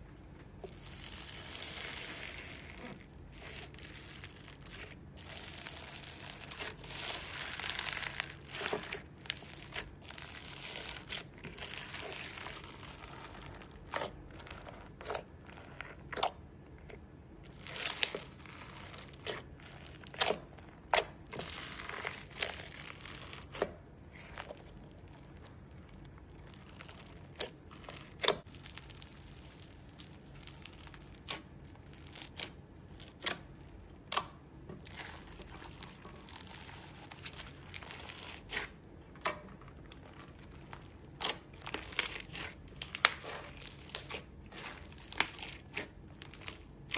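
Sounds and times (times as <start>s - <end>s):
crunchy slime crackling and popping: 0.6s - 46.9s.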